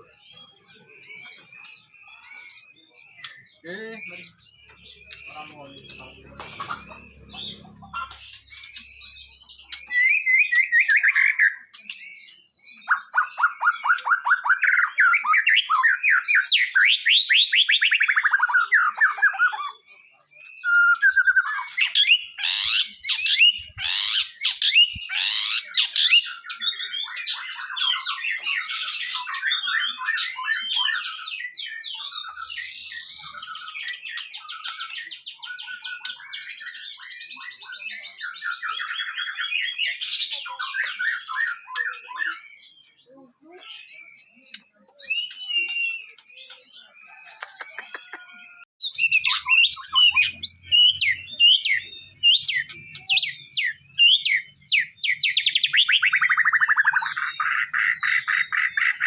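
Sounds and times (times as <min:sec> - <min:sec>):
bird singing whistled phrases and trills: 0:00.0 - 0:59.0.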